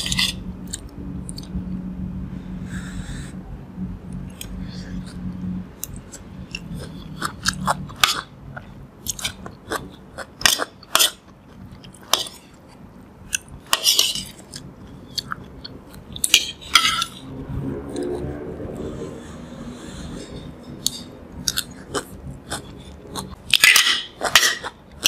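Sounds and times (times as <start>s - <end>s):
person chewing: 0.0s - 1.8s, 4.1s - 25.0s.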